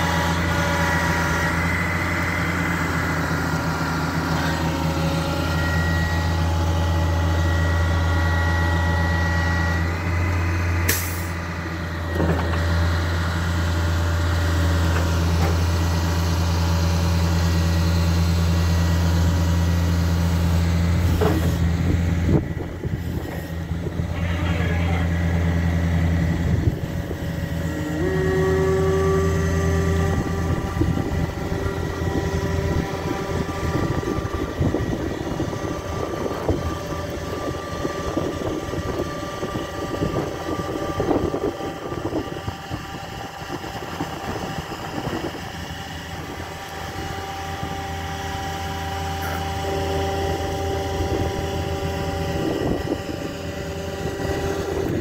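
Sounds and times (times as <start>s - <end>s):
hydraulic whine: 0.0s - 55.0s
truck engine running: 0.0s - 55.0s.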